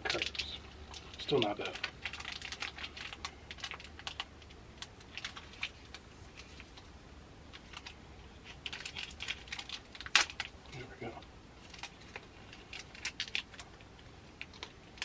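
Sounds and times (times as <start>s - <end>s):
plastic snack wrapper crinkling: 0.0s - 6.9s, 7.5s - 10.6s, 11.6s - 15.0s.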